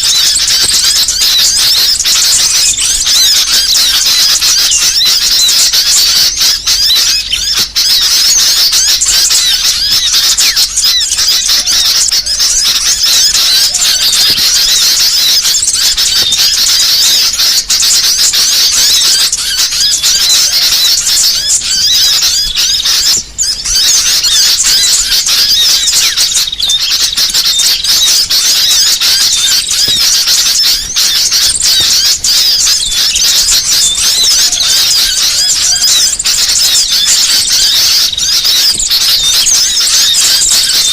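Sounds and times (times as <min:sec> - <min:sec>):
songbirds twittering: 0:00.0 - 0:40.9.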